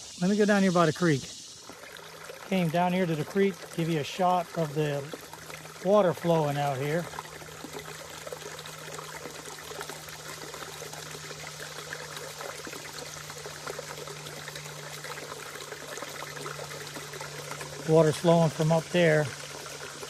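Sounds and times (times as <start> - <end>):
creek babbling over rocks: 0.0 - 20.0.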